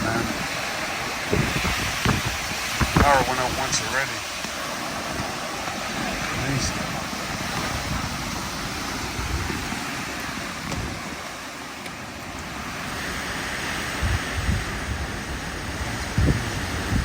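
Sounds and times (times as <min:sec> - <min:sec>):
strong wind blowing: 0:00.0 - 0:17.0
wind buffeting microphone: 0:00.0 - 0:17.0.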